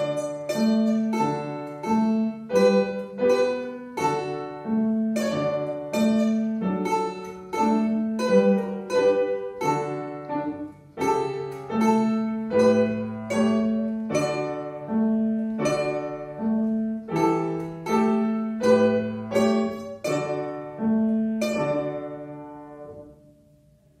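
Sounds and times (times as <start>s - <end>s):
domra plucking: 0.0s - 24.0s
piano playing: 0.0s - 24.0s.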